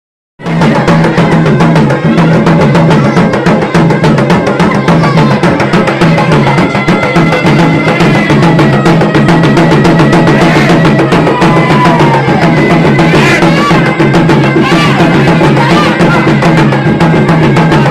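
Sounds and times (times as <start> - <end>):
fast drumming: 0.4 - 17.9.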